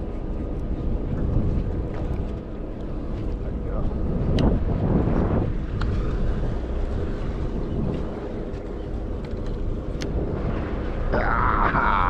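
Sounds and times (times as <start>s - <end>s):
boat engine rumble: 0.0s - 12.0s
wind on microphone: 0.0s - 12.0s.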